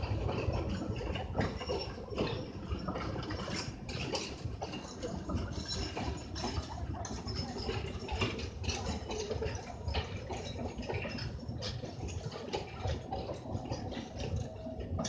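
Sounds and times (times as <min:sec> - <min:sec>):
wheels clicking and knocking: 0:00.0 - 0:15.0.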